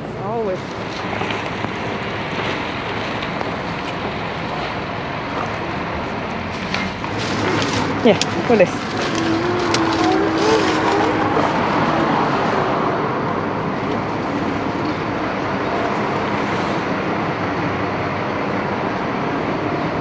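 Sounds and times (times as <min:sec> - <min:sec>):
city street traffic: 0:00.0 - 0:20.0
held engine-like tone: 0:03.5 - 0:20.0.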